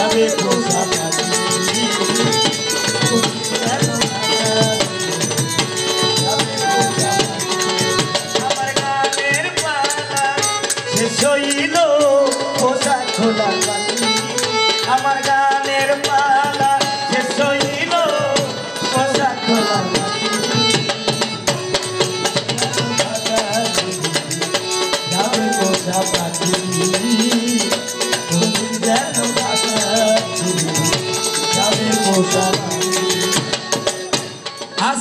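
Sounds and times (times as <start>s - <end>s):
hand percussion beat: 0.0s - 35.0s
harmonium melody: 0.0s - 35.0s.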